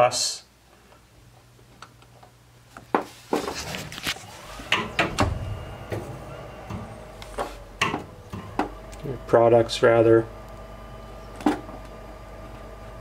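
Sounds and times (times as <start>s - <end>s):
low steady hum: 0.5s - 13.0s.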